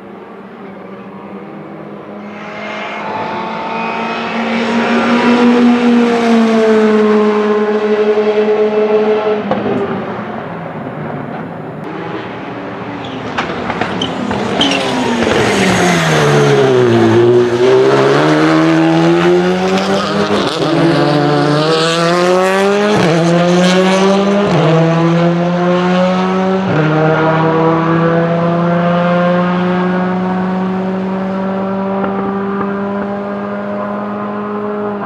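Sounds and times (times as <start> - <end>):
rally car engine accelerating: 0.1 - 35.0.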